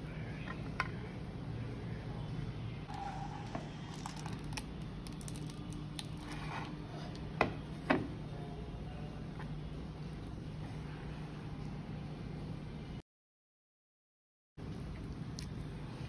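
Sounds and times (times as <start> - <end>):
steady low hum: 0.0 - 13.0, 14.6 - 16.0.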